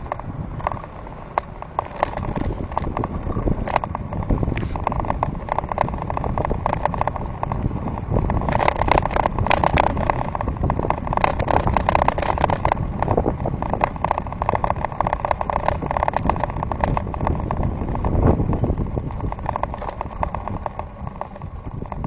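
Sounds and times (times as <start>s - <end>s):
fast ticking rattle: 0.0s - 22.0s
tyres rumbling on path: 0.0s - 22.0s
wind on microphone: 0.0s - 22.0s.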